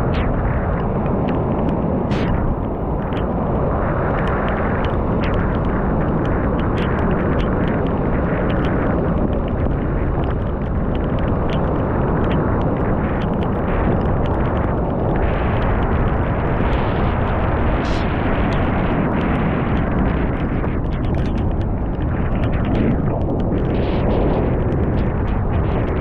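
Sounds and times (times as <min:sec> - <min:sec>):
raindrops ticking on camera: 0:00.0 - 0:26.0
wind buffeting microphone: 0:00.0 - 0:26.0.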